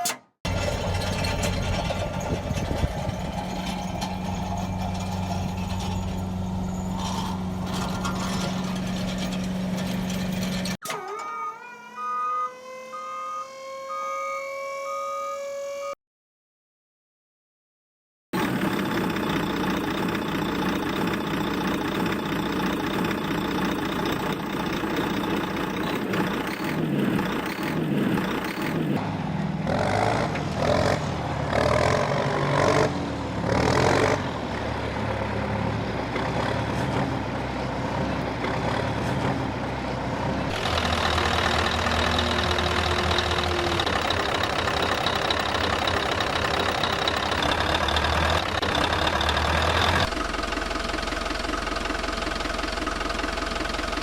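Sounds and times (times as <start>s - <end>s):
truck engine running and idling: 0.0s - 11.1s, 18.4s - 54.0s.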